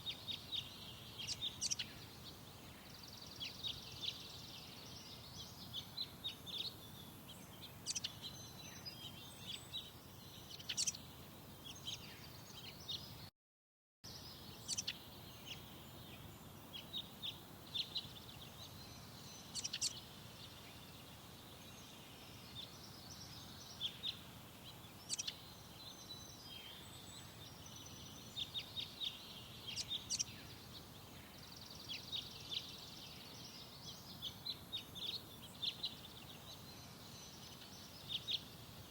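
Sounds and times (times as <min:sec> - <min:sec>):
faint background noise: 0:00.0 - 0:13.3, 0:14.1 - 0:38.9
small birds chirping: 0:00.0 - 0:13.3, 0:14.0 - 0:38.9.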